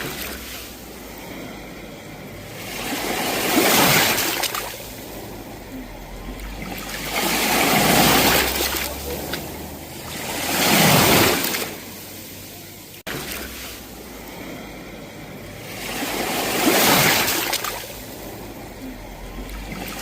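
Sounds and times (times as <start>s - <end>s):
sea waves breaking: 0.0s - 20.0s.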